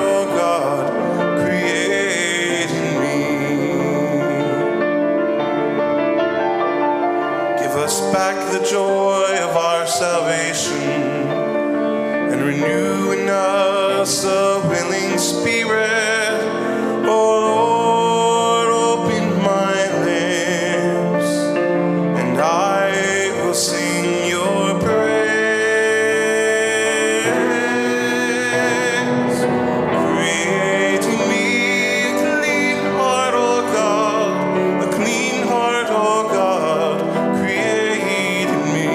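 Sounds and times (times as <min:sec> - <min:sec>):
church singing: 0:00.0 - 0:38.9
instrumental accompaniment: 0:00.0 - 0:38.9.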